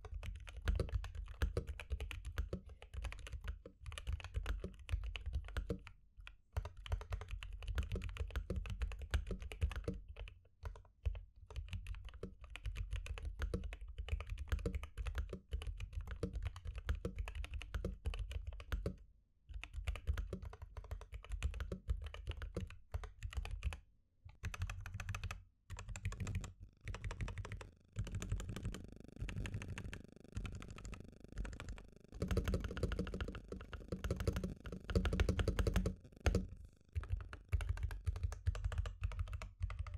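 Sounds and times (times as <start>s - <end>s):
mechanical keyboard typing: 0.0s - 5.9s, 6.6s - 10.8s, 11.5s - 39.9s.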